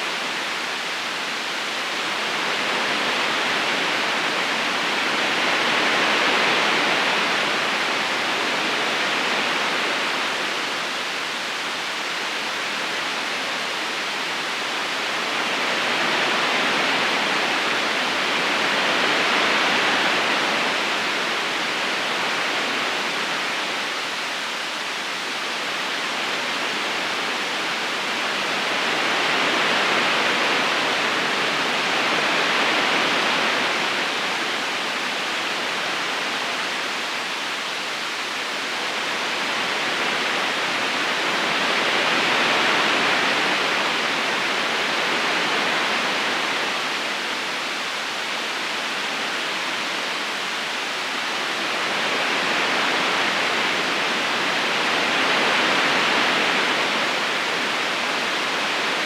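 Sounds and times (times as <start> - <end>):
river current rushing: 0.1 - 59.0.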